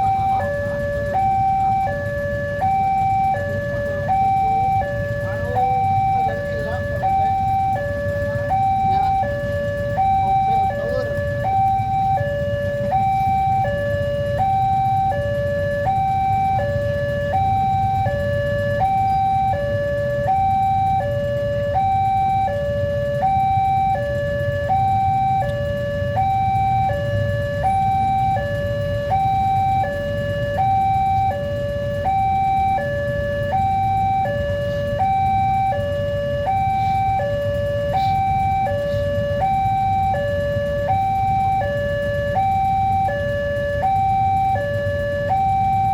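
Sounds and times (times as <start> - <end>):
level crossing two-tone alarm: 0.0 - 45.9.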